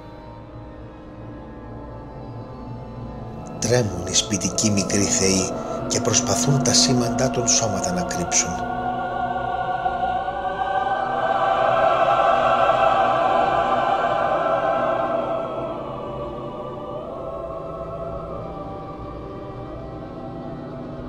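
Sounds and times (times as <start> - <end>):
choral singing: 1.3 - 21.0.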